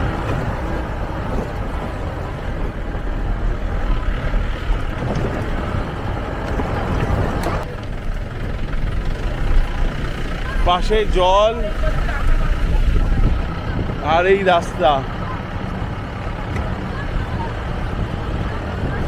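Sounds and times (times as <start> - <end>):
jeep engine and road noise: 0.0 - 19.0.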